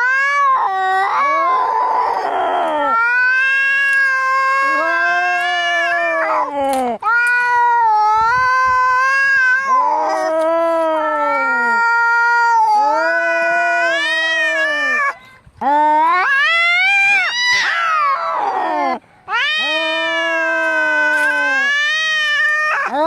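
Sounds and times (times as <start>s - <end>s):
cats yowling: 0.0s - 23.0s.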